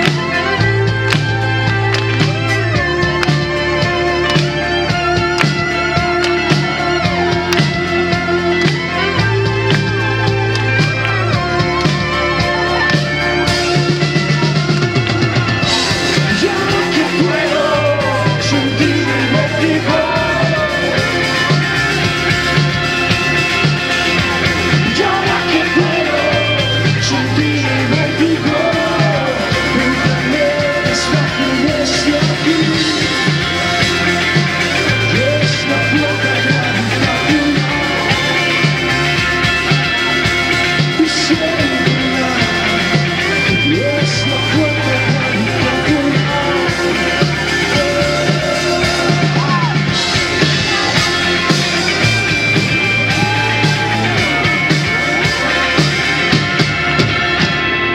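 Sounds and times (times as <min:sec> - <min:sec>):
bass line: 0:00.0 - 0:57.9
drums: 0:00.0 - 0:57.9
electric guitar: 0:00.0 - 0:57.9
keyboards: 0:00.0 - 0:57.9
singer's voice: 0:00.0 - 0:57.9.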